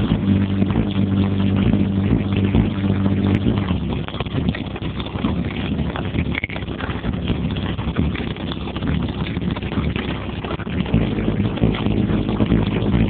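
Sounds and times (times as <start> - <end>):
low engine drone: 0.0 - 13.0
road and wind noise: 0.0 - 13.0.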